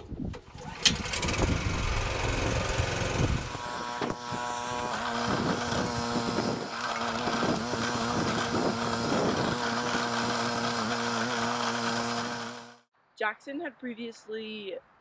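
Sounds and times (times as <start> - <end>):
tiller engine running: 0.5 - 12.9.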